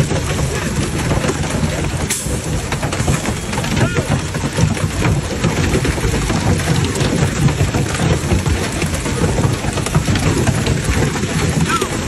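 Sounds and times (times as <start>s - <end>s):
hail pelting cars and pavement: 0.0s - 12.0s
heavy rain downpour: 0.0s - 12.0s.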